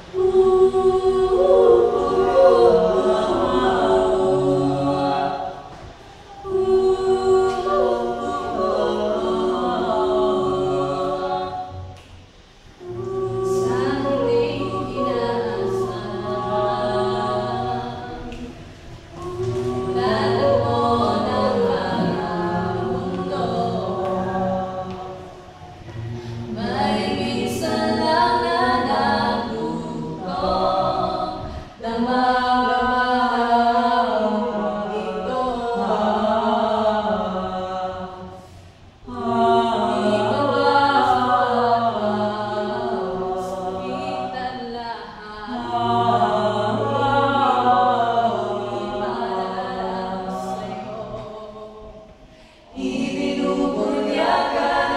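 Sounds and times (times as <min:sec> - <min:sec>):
mixed choir singing a cappella: 0:00.0 - 0:54.9.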